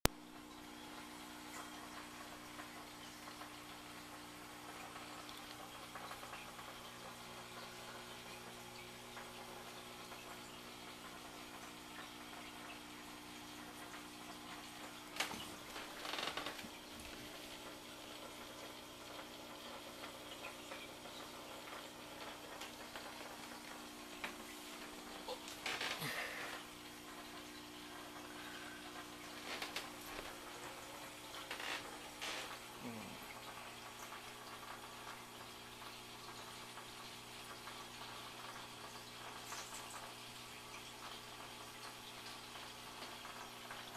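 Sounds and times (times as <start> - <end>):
aquarium pump hum: 0.1 - 43.9
fizzing bubbles hiss: 0.2 - 43.9.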